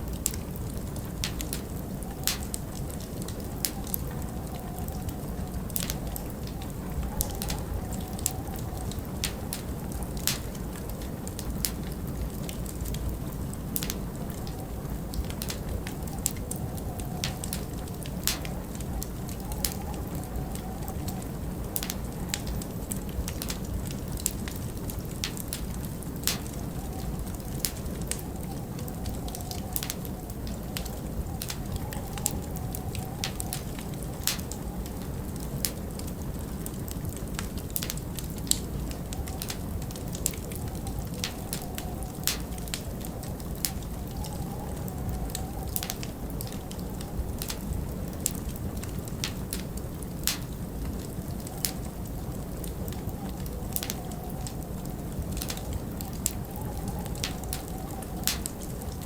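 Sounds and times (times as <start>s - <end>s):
wind rumbling: 0.0s - 59.0s
wood fire crackling: 0.0s - 59.0s.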